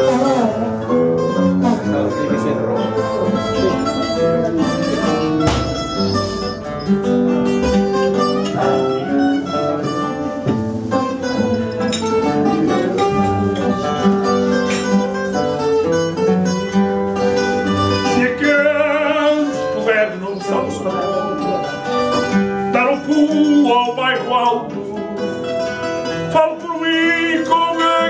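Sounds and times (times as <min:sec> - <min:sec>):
plucked guitar melody over chords: 0:00.0 - 0:28.0.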